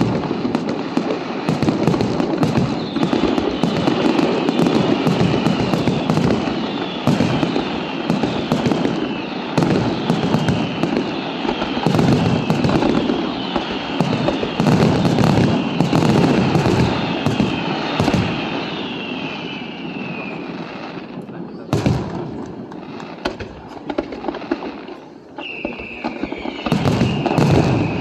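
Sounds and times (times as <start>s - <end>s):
fireworks crackling and banging: 0.0s - 28.0s
fireworks falling whistles: 0.0s - 28.0s.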